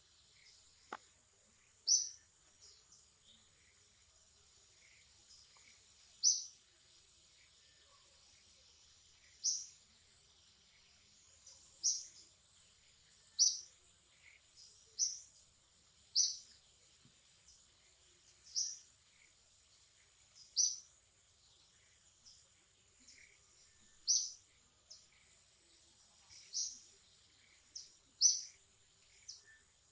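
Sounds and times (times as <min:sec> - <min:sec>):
insect hum: 0:00.0 - 0:29.9.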